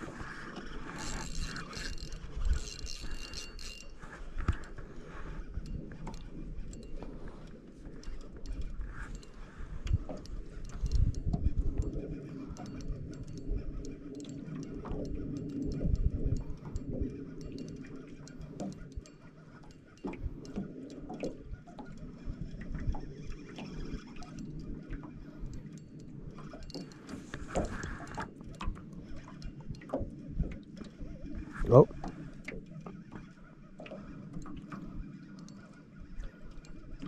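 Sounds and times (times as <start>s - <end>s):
light clicks and ticks: 0.4s - 37.0s.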